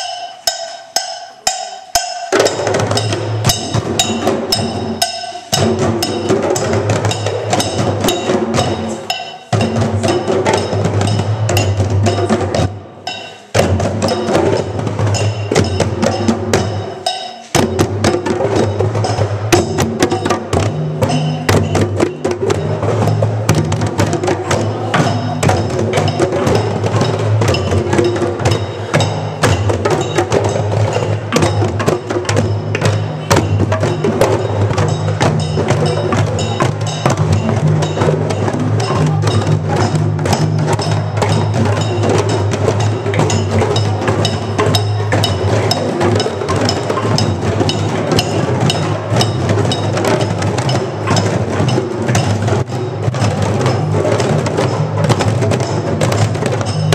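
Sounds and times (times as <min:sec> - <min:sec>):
hand drums playing: 0:00.0 - 0:56.9.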